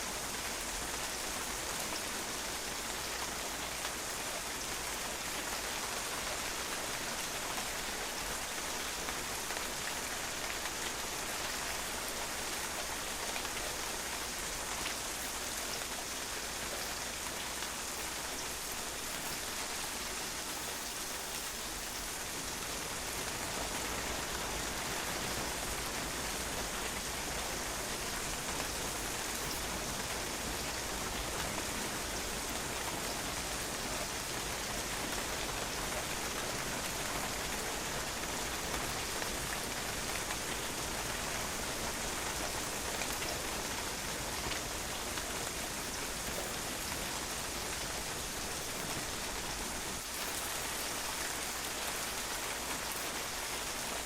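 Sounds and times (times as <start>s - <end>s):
rain splashing on a patio: 0.0s - 54.0s.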